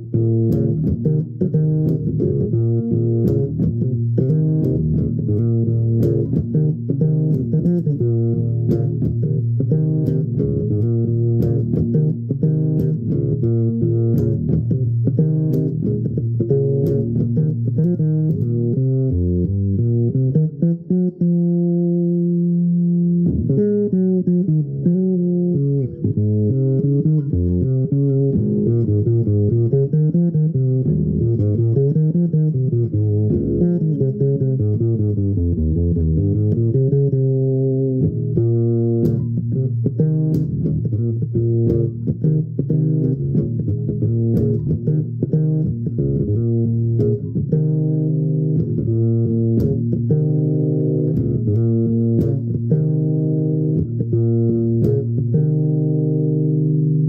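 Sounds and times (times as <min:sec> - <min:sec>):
electric bass guitar fingerstyle: 0:00.0 - 0:57.0.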